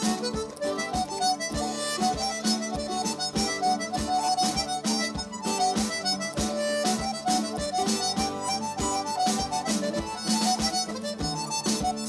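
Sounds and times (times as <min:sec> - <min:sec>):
accordion playing fast melody: 0:00.0 - 0:12.0
drum kit beat: 0:00.0 - 0:12.0
strummed guitar chords: 0:00.0 - 0:12.0.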